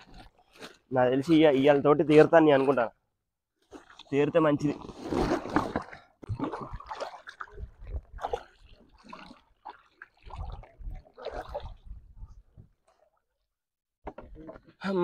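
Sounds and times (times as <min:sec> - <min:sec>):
water splashing and sloshing: 0:00.0 - 0:14.8.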